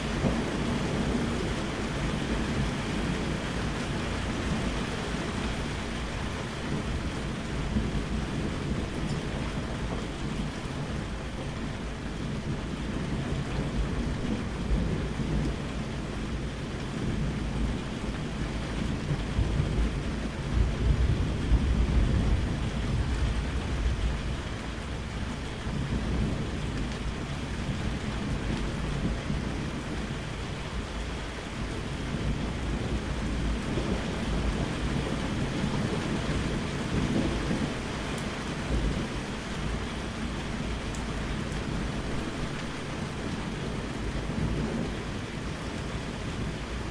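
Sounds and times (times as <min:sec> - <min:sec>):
rolling thunder: 0:00.0 - 0:46.9
steady rain: 0:00.0 - 0:46.9.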